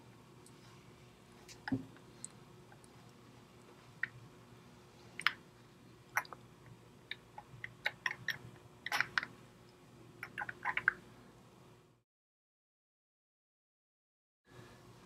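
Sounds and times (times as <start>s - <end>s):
faint steady hum: 0.0s - 12.0s, 14.5s - 15.0s.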